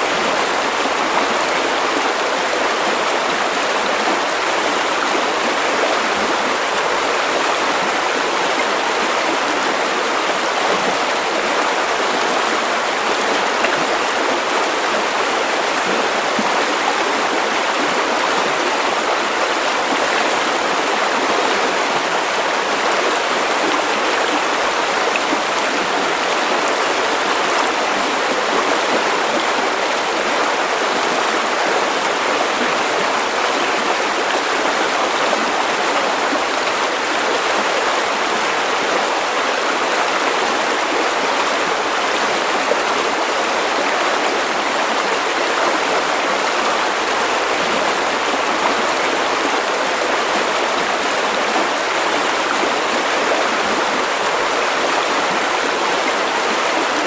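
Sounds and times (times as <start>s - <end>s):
river water rushing over stones: 0.0s - 57.0s.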